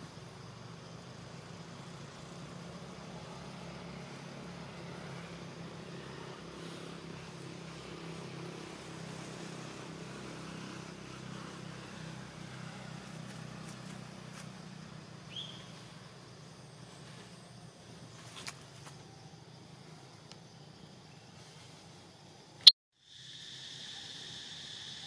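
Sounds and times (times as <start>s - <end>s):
low engine hum: 0.0s - 22.6s
faint outdoor background noise: 0.0s - 25.0s.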